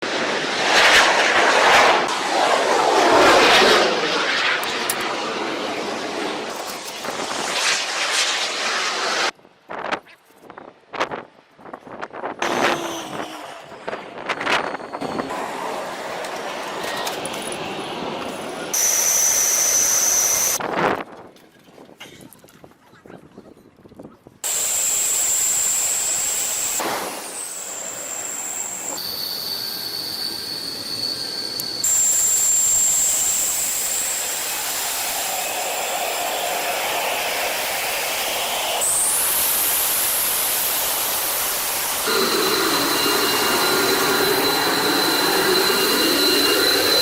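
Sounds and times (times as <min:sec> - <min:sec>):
high-pitched turbine whine: 0:00.0 - 0:09.3, 0:12.3 - 0:20.6, 0:24.5 - 0:47.0
fighter jet engine roar: 0:00.0 - 0:09.4, 0:12.3 - 0:20.6, 0:24.4 - 0:47.0.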